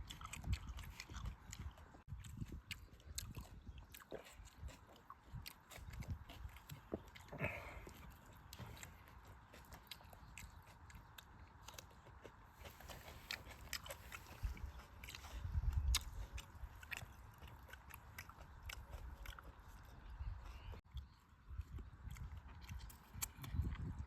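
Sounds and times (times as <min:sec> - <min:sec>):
chewing and crunching: 0:00.0 - 0:24.0.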